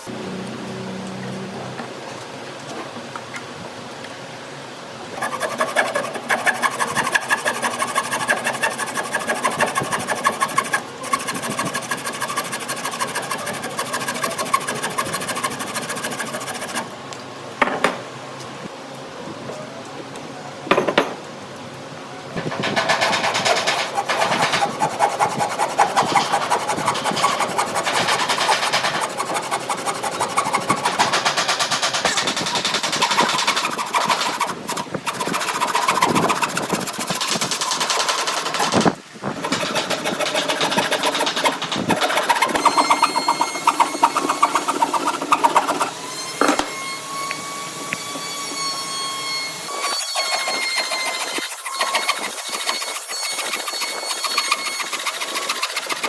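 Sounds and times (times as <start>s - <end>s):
power tools cutting wood: 5.2s - 16.9s, 22.4s - 56.0s.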